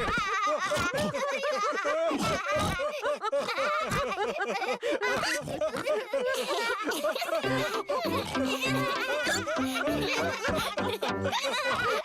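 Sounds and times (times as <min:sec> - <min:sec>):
cartoon voices laughing: 0:00.0 - 0:12.0.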